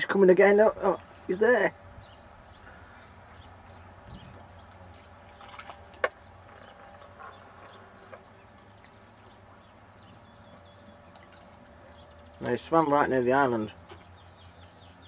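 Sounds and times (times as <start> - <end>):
distant birds chirping: 0.0 - 15.0
low steady hum: 0.0 - 15.0.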